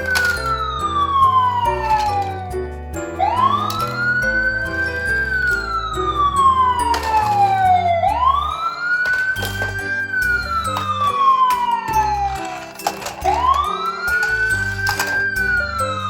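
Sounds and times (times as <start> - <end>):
background music: 0.0 - 16.0
fire engine siren wailing: 0.0 - 16.0.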